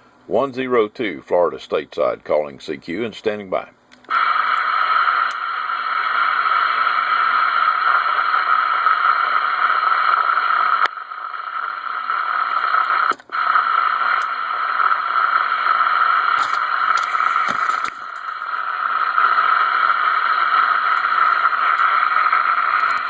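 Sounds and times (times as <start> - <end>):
radio static hiss: 0.2 - 23.0.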